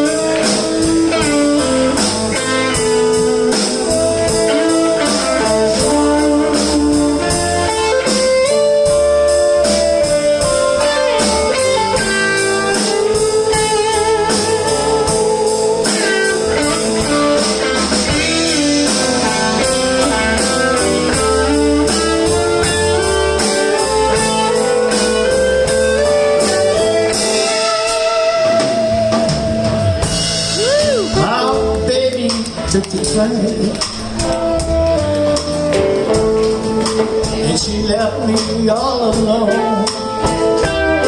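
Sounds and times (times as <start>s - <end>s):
bent electric guitar notes: 0.0s - 41.0s
live blues band playing: 0.0s - 41.0s.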